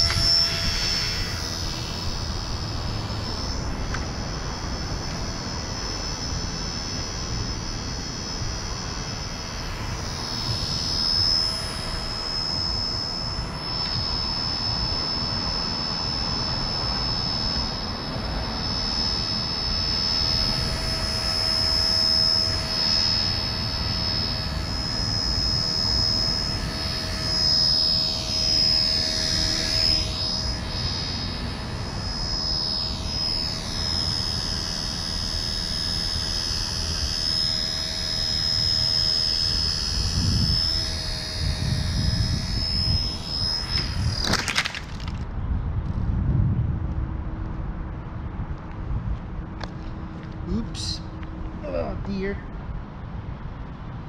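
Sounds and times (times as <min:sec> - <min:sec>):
toy helicopter rotor whine: 0:00.0 - 0:45.4.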